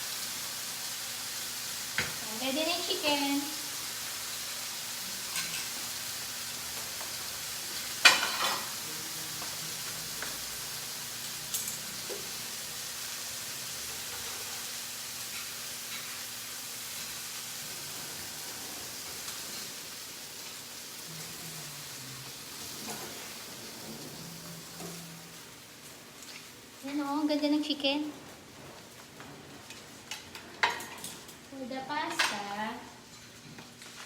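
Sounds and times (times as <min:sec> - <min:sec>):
chicken sizzling in a frying pan: 0:00.0 - 0:34.0.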